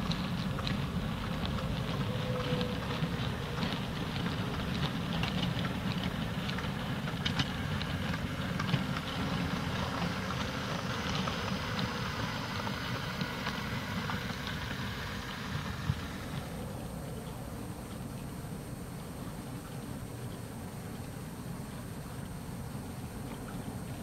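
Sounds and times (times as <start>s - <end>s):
model train wheels rumbling: 0.0s - 19.6s.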